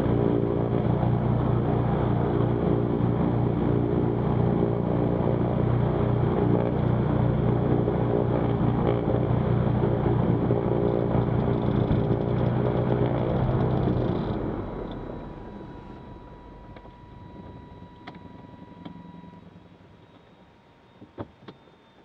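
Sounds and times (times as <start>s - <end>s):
aircraft piston engines droning: 0.0s - 20.8s.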